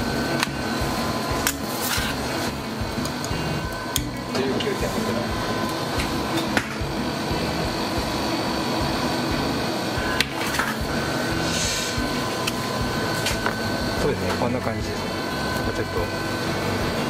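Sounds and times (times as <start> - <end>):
kitchen equipment hum: 0.0 - 17.0.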